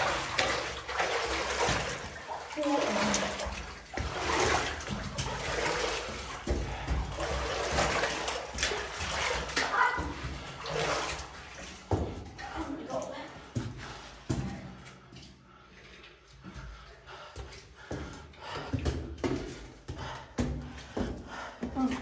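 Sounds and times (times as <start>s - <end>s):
footsteps splashing through water: 0.0s - 22.0s.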